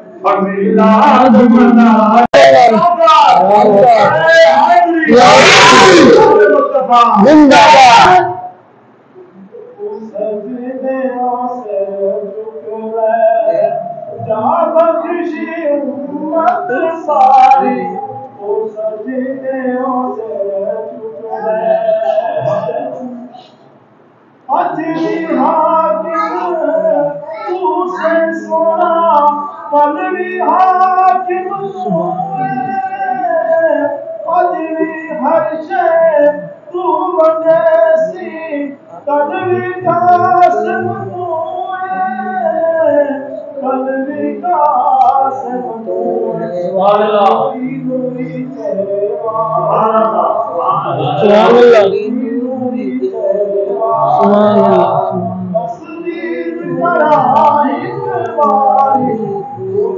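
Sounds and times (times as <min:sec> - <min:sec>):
man chanting into a microphone: 0:00.0 - 0:59.9
person singing unaccompanied: 0:00.0 - 0:59.9.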